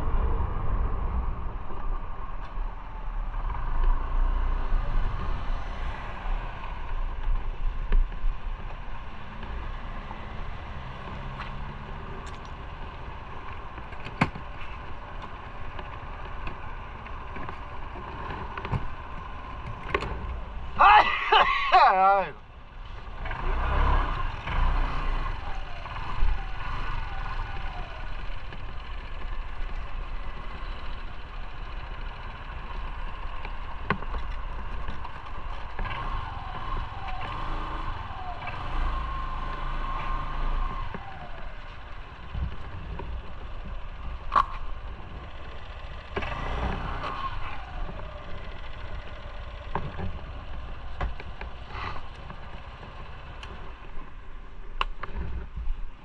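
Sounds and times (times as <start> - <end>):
motorcycle engine rumble: 0.0 - 56.0.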